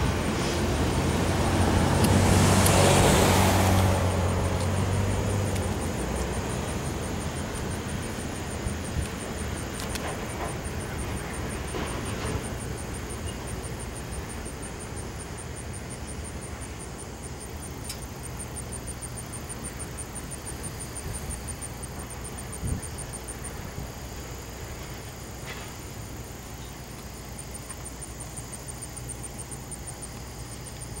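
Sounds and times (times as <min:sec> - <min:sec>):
night insects chirping: 0:00.0 - 0:31.0.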